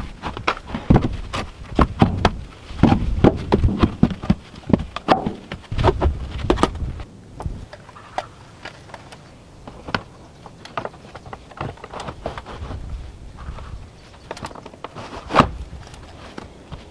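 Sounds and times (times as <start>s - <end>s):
knocks and clunks of timber: 0.0s - 8.3s, 9.7s - 16.9s.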